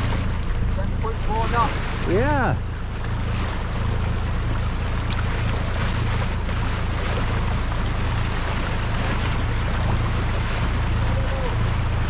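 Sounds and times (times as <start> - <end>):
boat engine humming: 0.0 - 12.0
water rushing past hull: 0.0 - 12.0.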